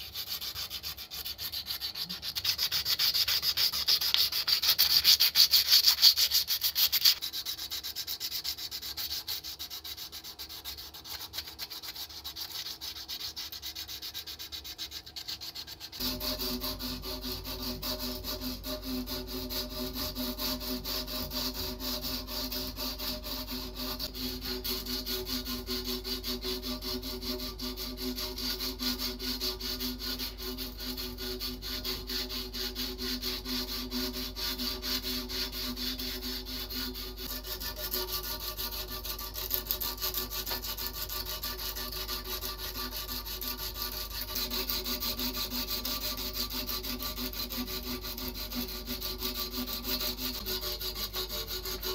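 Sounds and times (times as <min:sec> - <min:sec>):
file stroking metal: 0:00.0 - 0:51.9
sandpaper rubbing metal: 0:00.0 - 0:51.9.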